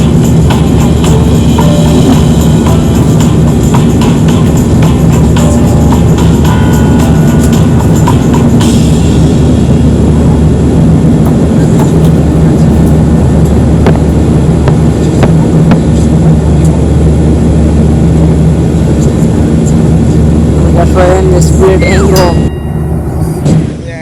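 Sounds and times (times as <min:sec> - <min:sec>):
jet engines droning: 0:00.0 - 0:24.0
rushing air: 0:00.0 - 0:24.0.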